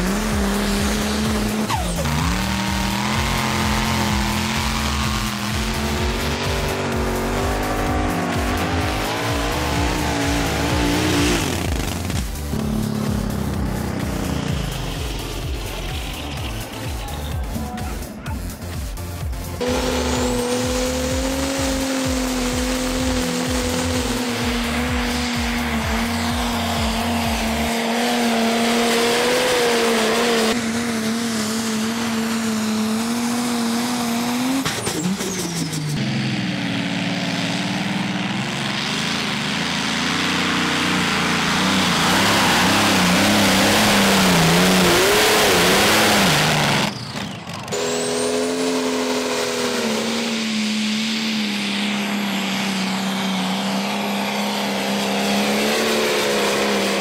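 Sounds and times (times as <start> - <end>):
rushing roar: 0.0 - 16.8, 19.6 - 34.6, 36.0 - 57.0
tractor engines revving hard: 0.0 - 57.0.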